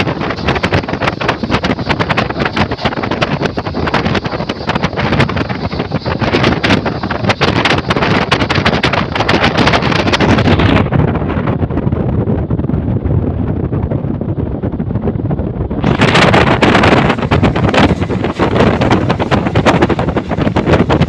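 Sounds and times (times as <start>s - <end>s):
train rushing rumble: 0.0s - 21.0s
wind buffeting microphone: 0.0s - 21.0s.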